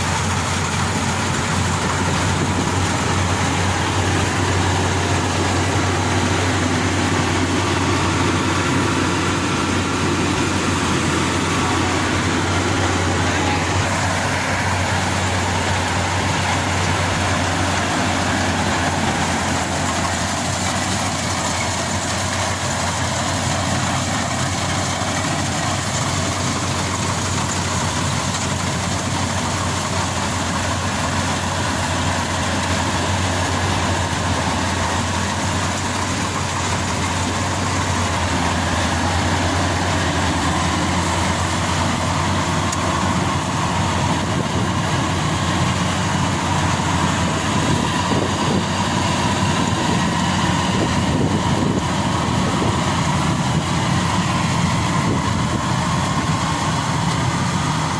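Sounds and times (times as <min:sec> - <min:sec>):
diesel engine humming: 0:00.0 - 0:57.9.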